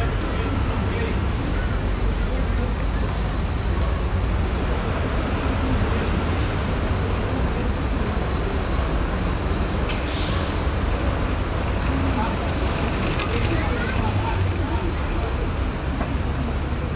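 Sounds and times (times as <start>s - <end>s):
dense city traffic: 0.0s - 16.9s.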